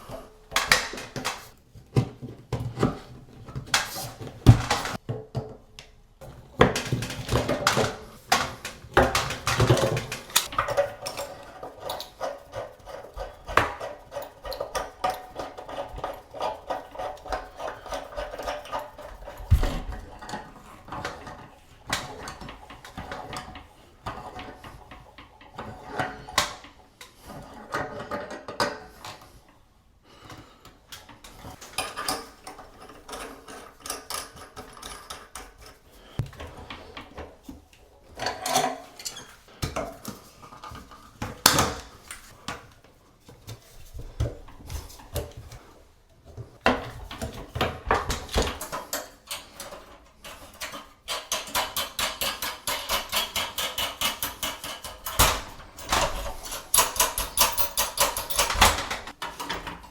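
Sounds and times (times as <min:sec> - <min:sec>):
knocks clanks and scrapes: 0:00.0 - 0:05.5, 0:06.2 - 0:59.9.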